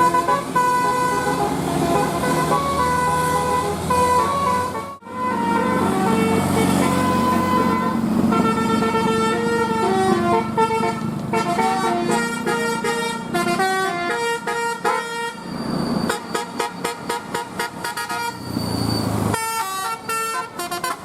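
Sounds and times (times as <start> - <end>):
musical air horn tune: 0.0 - 15.5, 19.4 - 21.0.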